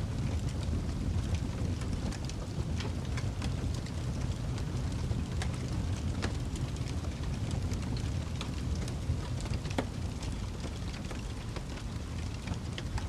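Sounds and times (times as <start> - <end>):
low roar of flames: 0.0 - 13.0
wood fire crackling: 0.0 - 13.0.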